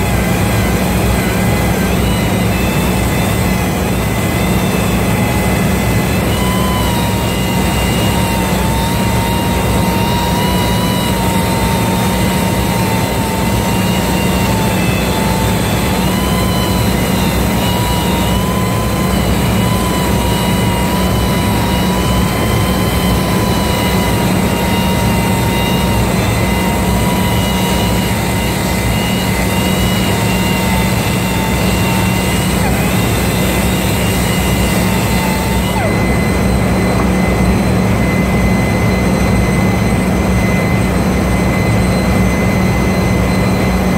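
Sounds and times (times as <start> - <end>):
electric grinder on metal: 0.0 - 43.9.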